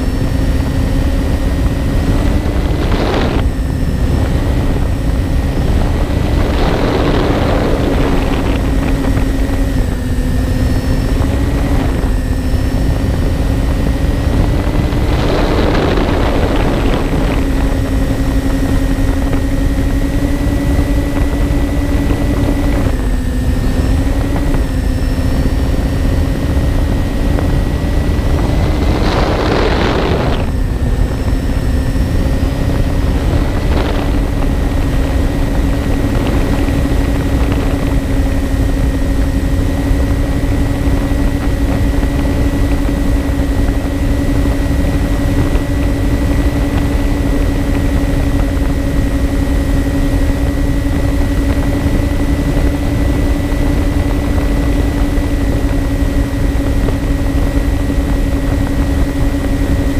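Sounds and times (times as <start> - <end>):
electric motors and propellers humming: 0.0 - 59.9
wind rushing over microphone: 0.0 - 59.9.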